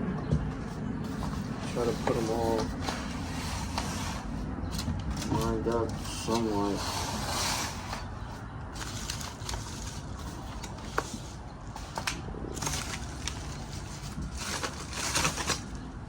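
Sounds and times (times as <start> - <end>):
packaging rustling and crinkling: 0.6 - 16.0.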